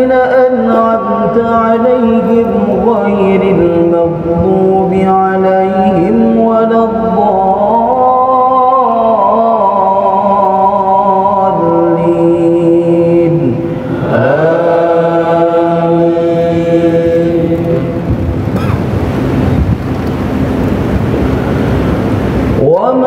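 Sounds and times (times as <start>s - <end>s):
man chanting melodious recitation: 0.0s - 18.2s, 22.6s - 23.0s.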